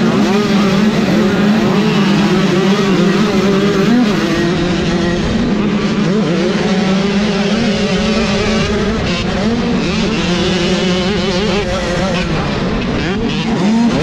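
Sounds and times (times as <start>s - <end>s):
motocross bike engine revving: 0.0s - 14.0s
other motorbikes: 0.0s - 14.0s.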